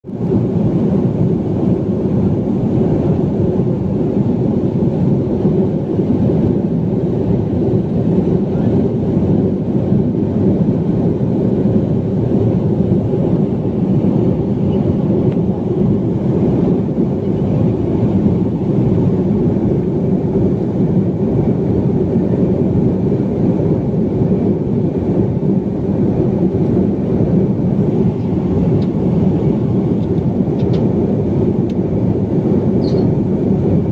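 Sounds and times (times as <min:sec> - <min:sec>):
jet airliner engine roar: 0:00.0 - 0:33.9.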